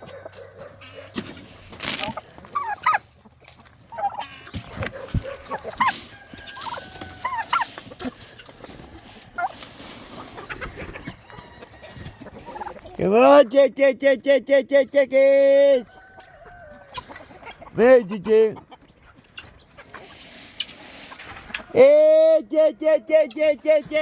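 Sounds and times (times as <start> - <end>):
chickens and turkeys calling: 0.0 - 24.0.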